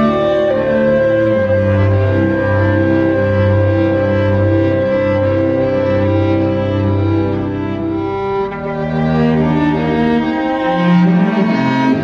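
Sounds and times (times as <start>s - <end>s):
bowed strings music: 0.0s - 12.0s.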